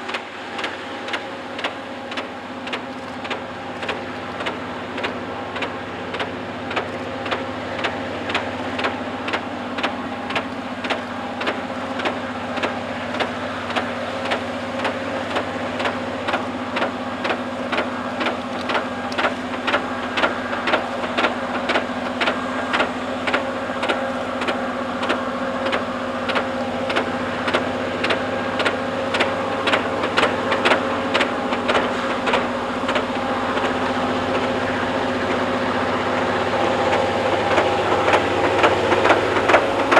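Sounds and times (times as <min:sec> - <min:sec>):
rotary snow plow engine drone: 0:00.0 - 0:39.9.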